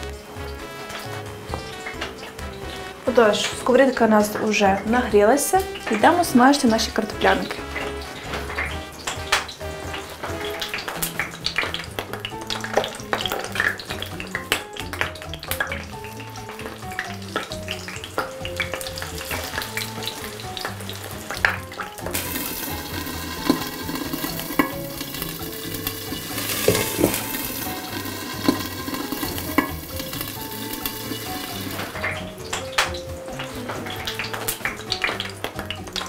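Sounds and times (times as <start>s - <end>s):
patties sizzling in hot oil: 0.0s - 36.0s.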